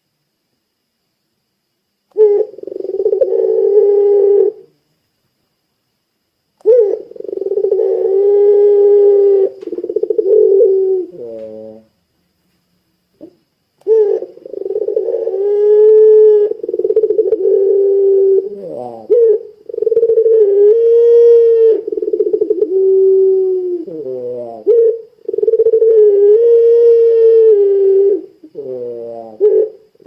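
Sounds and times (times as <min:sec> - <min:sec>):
dove cooing: 0:02.1 - 0:04.8, 0:06.6 - 0:11.9, 0:13.2 - 0:30.0.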